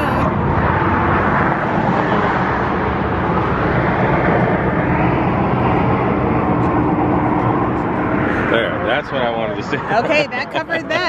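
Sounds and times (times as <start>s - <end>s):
highway traffic rushing: 0.0s - 11.0s.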